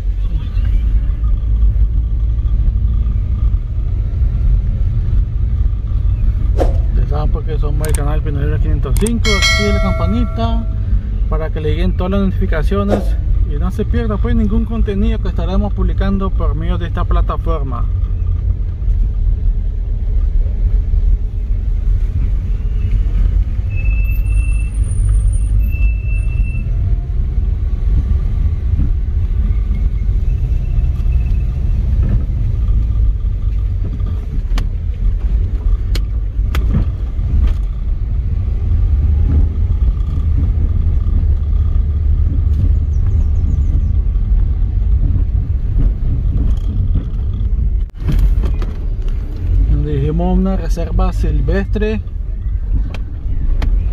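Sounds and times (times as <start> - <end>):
road noise: 0.0 - 53.9
vehicle engine rumble: 0.0 - 53.9.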